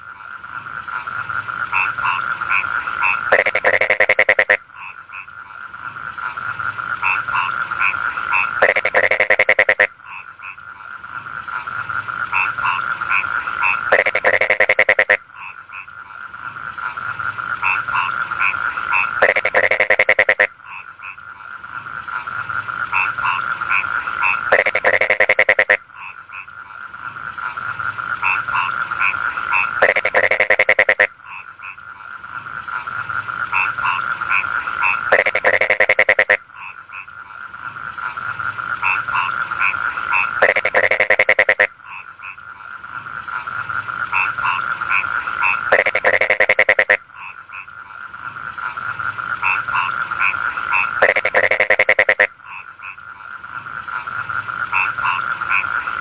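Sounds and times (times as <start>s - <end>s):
fast-pulsed frog croaking burst: 0.0s - 21.5s, 22.2s - 56.0s
frogs trilling in chorus: 0.0s - 56.0s.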